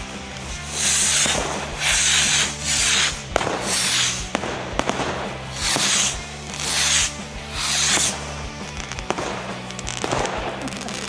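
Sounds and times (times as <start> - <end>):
fireworks bursting cracks: 0.0 - 11.0
fireworks hissing whooshes: 0.0 - 11.0.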